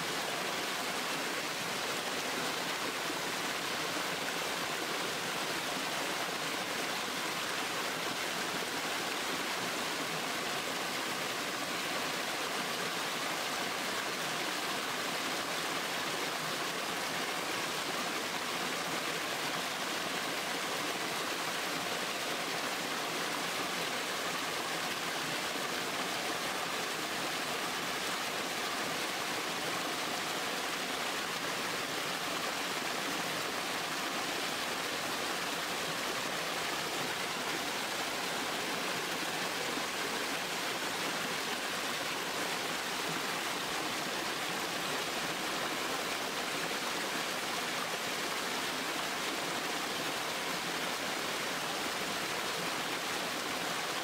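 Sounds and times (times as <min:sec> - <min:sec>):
stream splashing and rushing: 0:00.0 - 0:54.0.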